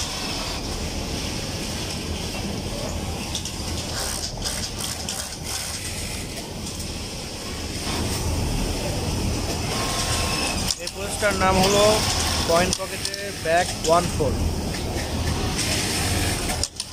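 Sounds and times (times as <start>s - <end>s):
sewing machines humming: 0.0s - 16.9s.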